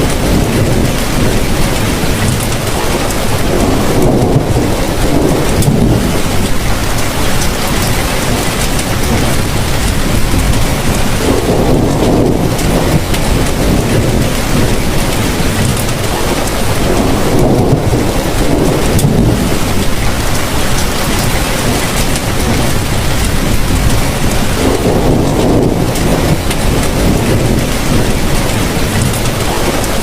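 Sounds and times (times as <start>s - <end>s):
deep low rumble: 0.0s - 16.0s, 16.6s - 30.0s
heavy rainfall: 0.0s - 30.0s.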